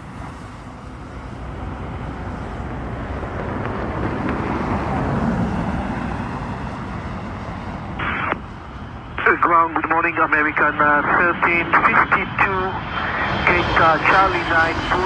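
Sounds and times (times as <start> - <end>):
jet plane engine: 0.0 - 15.0.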